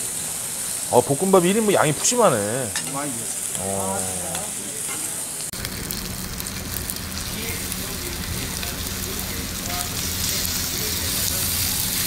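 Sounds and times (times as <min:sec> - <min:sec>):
rice sizzling in iron pan: 0:00.0 - 0:12.0.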